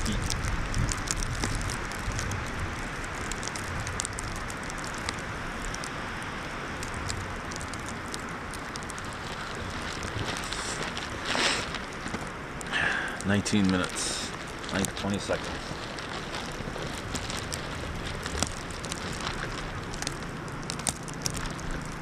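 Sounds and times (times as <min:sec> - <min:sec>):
plastic bag crackling: 0:00.0 - 0:22.0
steady wind: 0:00.0 - 0:22.0.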